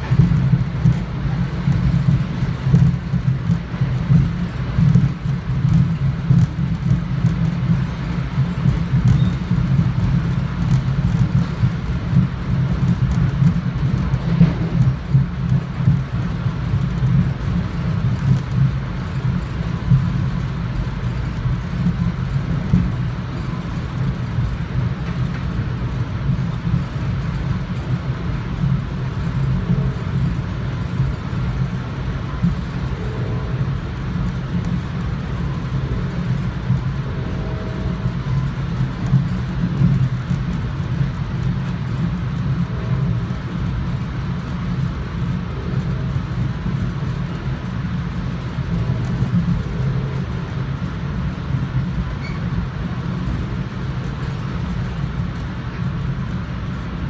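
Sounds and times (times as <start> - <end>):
train coach rumbling at speed: 0.0 - 57.0.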